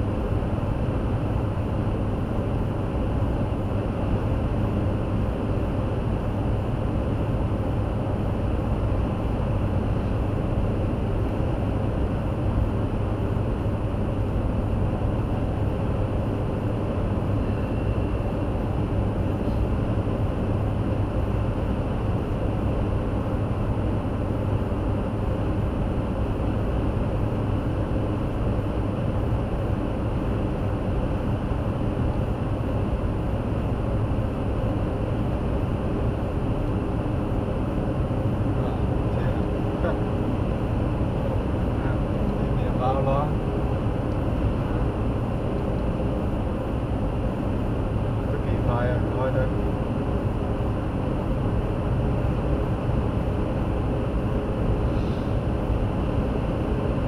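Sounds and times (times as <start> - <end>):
car road and engine drone: 0.0 - 57.0.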